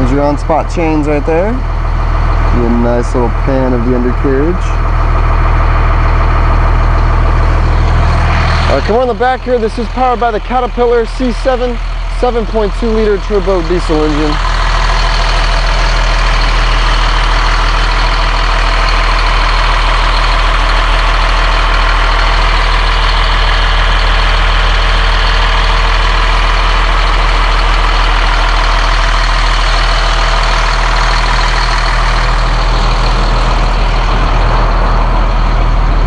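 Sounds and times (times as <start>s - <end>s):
diesel bus engine idling: 0.0s - 36.0s.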